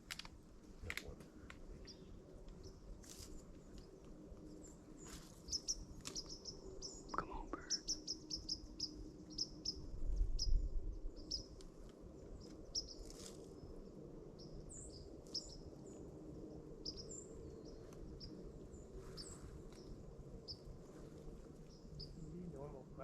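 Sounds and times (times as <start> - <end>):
small birds chirping: 0.8 - 23.0.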